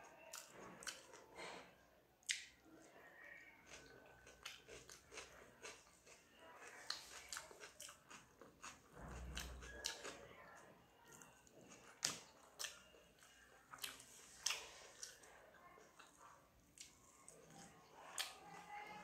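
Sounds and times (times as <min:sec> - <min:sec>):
person chewing: 0:00.3 - 0:01.5, 0:03.6 - 0:18.4.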